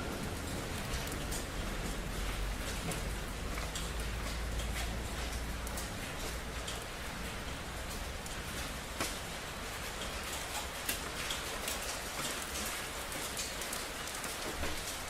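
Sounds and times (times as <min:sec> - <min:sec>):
raindrops ticking on hard surfaces: 0:00.0 - 0:15.0
steady rain hiss: 0:00.0 - 0:15.0.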